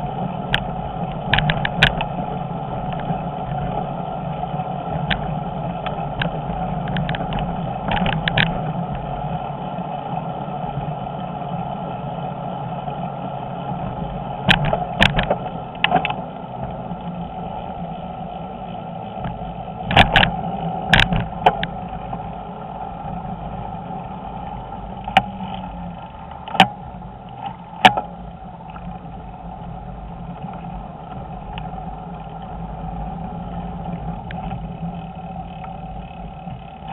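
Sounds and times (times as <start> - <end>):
bicycle tyres humming on pavement: 0.0 - 36.9
bike knocking and rattling over bumps: 0.0 - 36.9.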